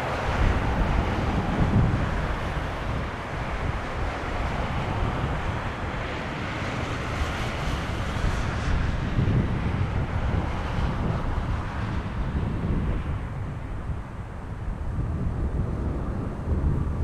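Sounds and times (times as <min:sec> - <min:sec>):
jet engine roar: 0:00.0 - 0:17.0
wind rumbling on microphone: 0:00.0 - 0:17.0.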